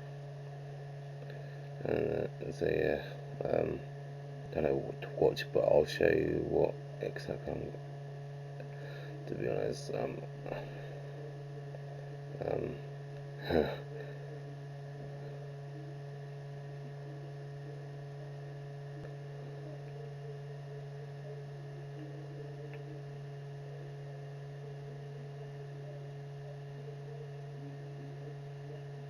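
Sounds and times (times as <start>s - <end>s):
faint steady tones: 0.0s - 29.0s
low electrical hum: 0.0s - 29.0s.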